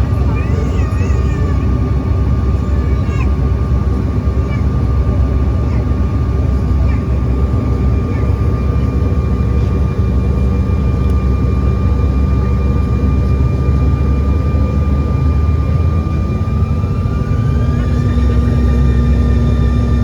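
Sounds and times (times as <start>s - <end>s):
engine high whine: 0.0s - 20.0s
jet cabin low rumble: 0.0s - 20.0s.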